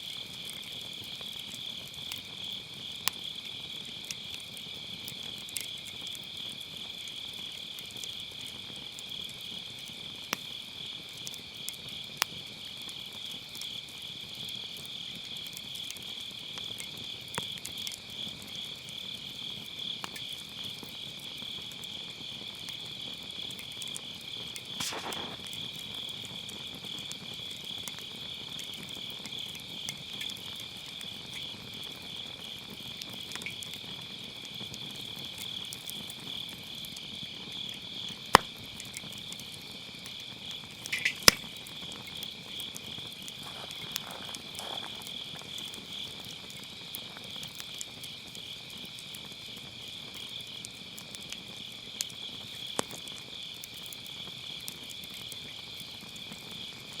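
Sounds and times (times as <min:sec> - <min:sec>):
crickets trilling: 0:00.0 - 0:57.0
wood fire crackling: 0:00.0 - 0:57.0.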